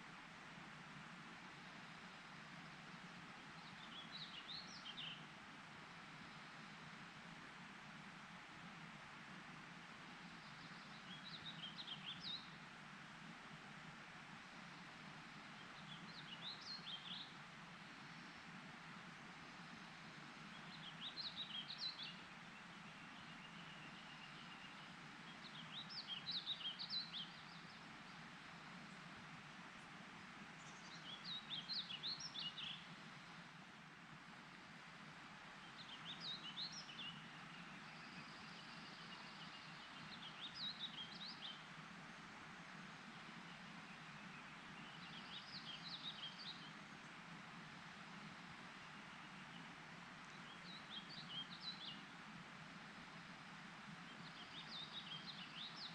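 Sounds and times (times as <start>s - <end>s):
faint rushing background: 0.0s - 55.9s
steady background hiss: 0.0s - 55.9s
songbird chirping: 1.5s - 7.0s, 10.1s - 12.8s, 14.4s - 18.7s, 19.3s - 52.2s, 52.9s - 55.9s.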